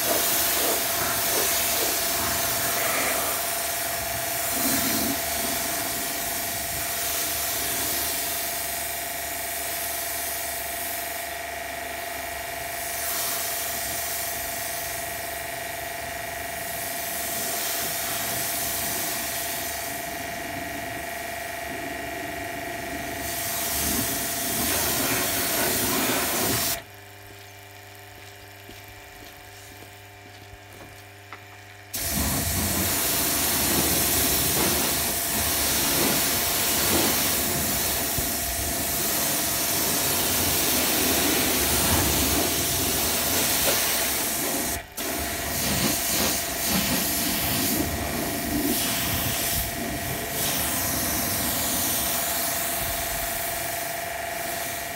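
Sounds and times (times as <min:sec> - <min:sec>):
pressure washer spraying water: 0:00.0 - 0:11.3, 0:12.7 - 0:26.9, 0:31.9 - 0:54.9
pump tone: 0:00.0 - 0:28.0, 0:31.9 - 0:54.9.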